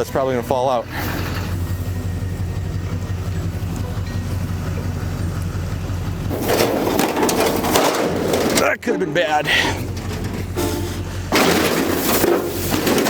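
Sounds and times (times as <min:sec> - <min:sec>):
pickup truck engine humming: 0:00.0 - 0:13.0.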